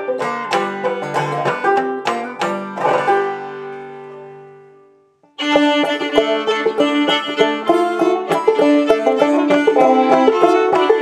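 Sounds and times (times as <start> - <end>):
banjo picking: 0.0 - 11.0
fiddle and banjo playing: 0.0 - 11.0.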